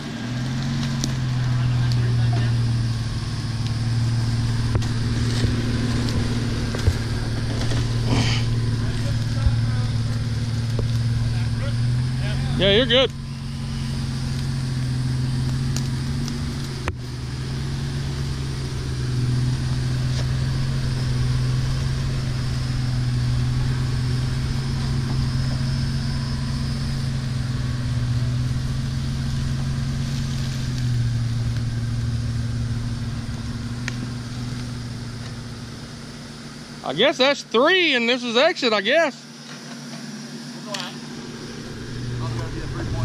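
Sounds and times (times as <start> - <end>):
off-road vehicle engine running: 0.0 - 43.0.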